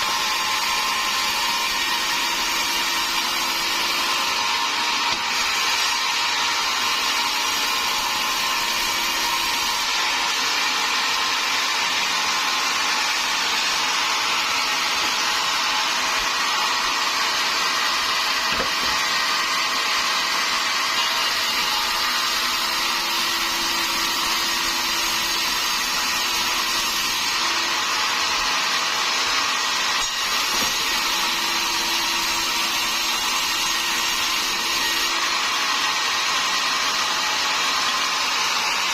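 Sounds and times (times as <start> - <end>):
sawmill saw cutting timber: 0.0 - 38.9.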